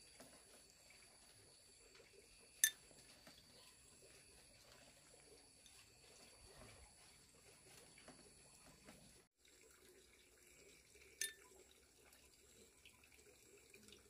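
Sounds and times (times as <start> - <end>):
faint running water: 0.0 - 14.0.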